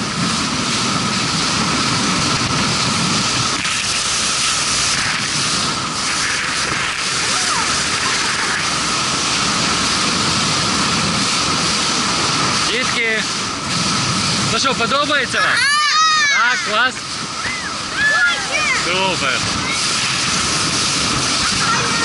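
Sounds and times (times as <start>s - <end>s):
water spraying off hull: 0.0s - 22.0s
wind buffeting microphone: 0.0s - 22.0s.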